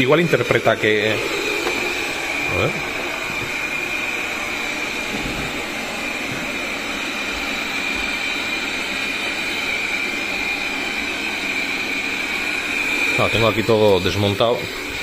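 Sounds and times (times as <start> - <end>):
high-pitched whine: 0.0 - 15.0
robot vacuum fan whirring: 0.0 - 15.0.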